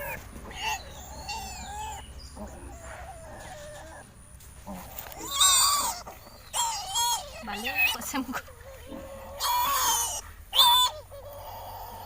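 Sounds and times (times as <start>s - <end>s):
piglets squealing: 0.0s - 4.0s, 5.1s - 12.0s.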